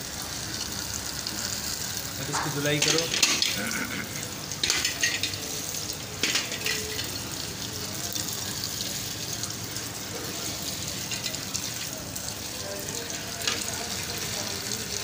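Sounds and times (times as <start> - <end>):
water splashing onto metal: 2.1 - 15.0.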